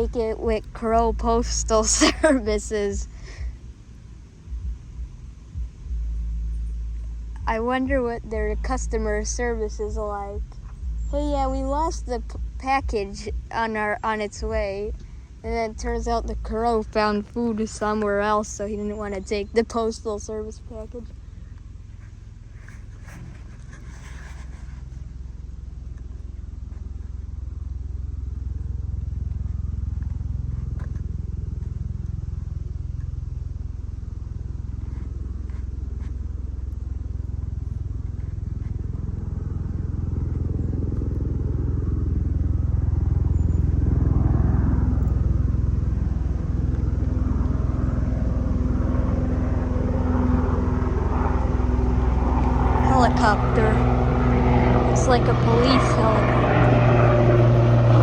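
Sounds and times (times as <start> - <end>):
helicopter rotor and engine drone: 0.0 - 6.0, 7.3 - 58.0.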